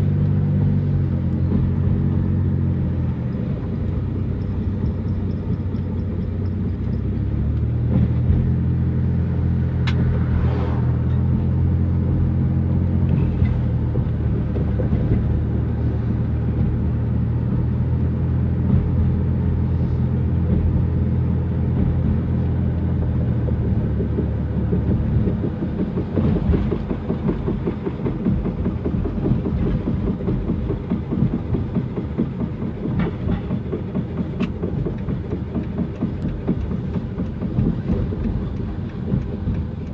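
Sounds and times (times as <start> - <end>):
car engine humming and rattling: 0.0 - 39.9.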